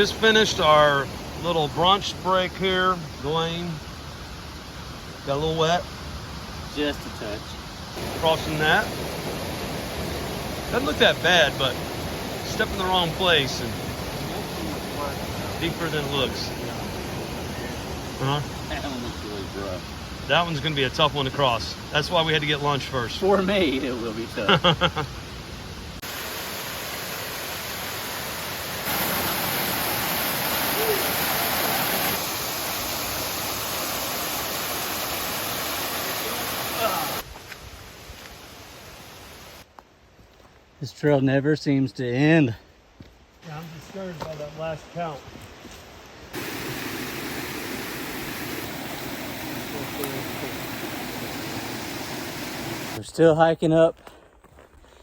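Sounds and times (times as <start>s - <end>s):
creek water rushing: 0.0s - 37.3s, 38.0s - 39.6s, 46.2s - 53.0s.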